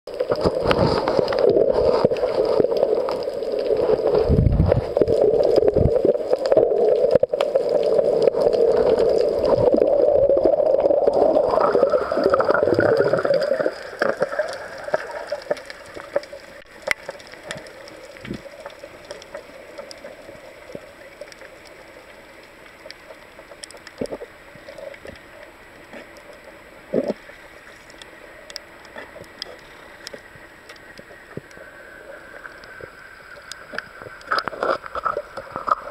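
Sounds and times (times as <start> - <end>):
muffled underwater rushing water: 0.1 - 35.9.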